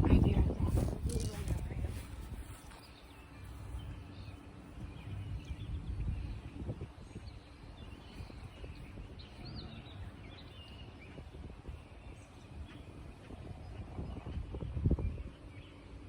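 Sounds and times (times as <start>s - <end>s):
small birds chirping: 0.0s - 16.0s
wind rumble on microphone: 0.0s - 16.0s.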